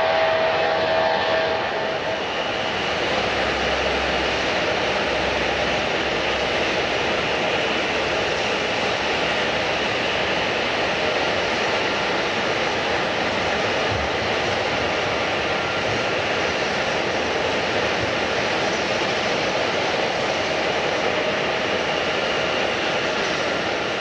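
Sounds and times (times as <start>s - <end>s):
engine whine: 0.0s - 24.0s
jet engines roaring: 0.0s - 24.0s.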